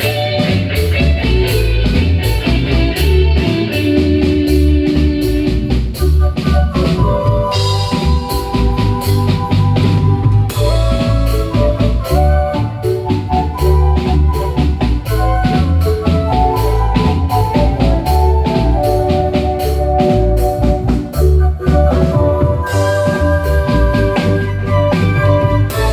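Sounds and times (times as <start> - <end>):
drum kit dance beat: 0.0 - 25.9
heavy bass: 0.0 - 25.9
marimba notes: 0.0 - 25.9.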